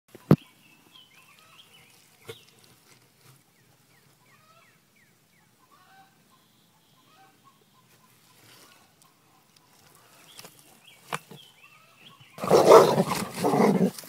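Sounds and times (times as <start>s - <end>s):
faint chirping birds: 0.1s - 13.9s.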